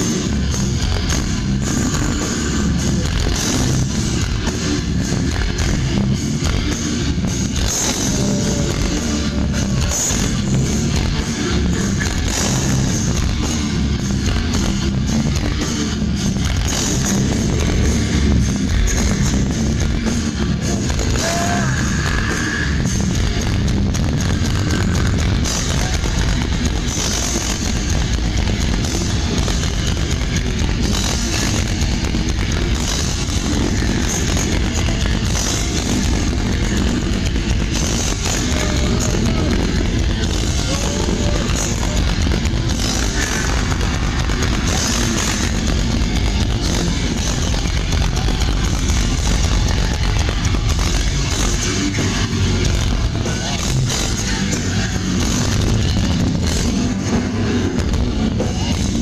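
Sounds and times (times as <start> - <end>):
death metal band playing live: 0.0 - 59.0.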